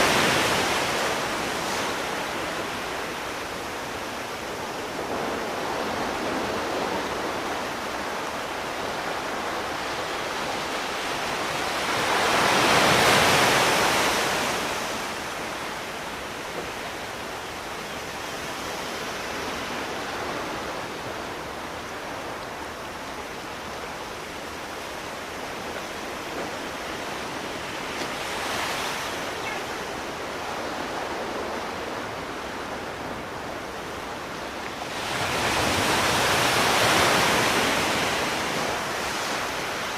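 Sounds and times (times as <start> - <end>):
surf hiss: 0.0 - 39.9
waves breaking on shore: 0.0 - 39.9.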